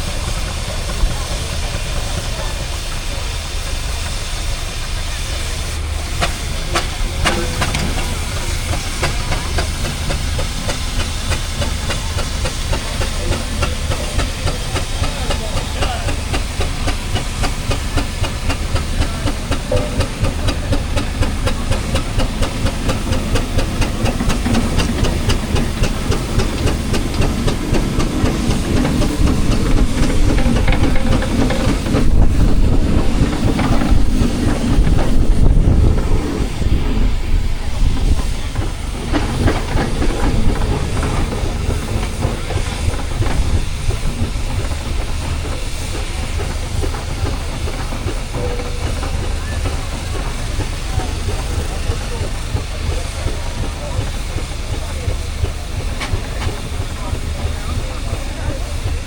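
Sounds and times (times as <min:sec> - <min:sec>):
steam engine exhaust chuffs: 0:00.0 - 0:59.0
steam hiss: 0:00.0 - 0:59.0.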